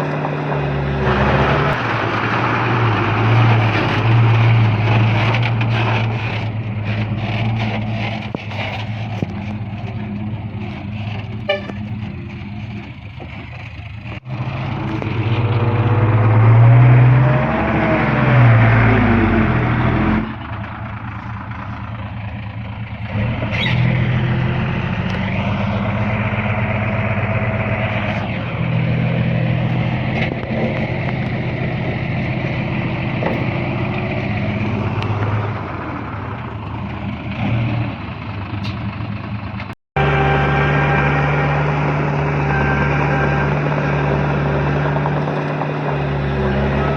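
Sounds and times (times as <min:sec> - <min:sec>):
engine revving: 0:00.0 - 0:46.9
heavy machinery diesel engines: 0:00.0 - 0:46.9.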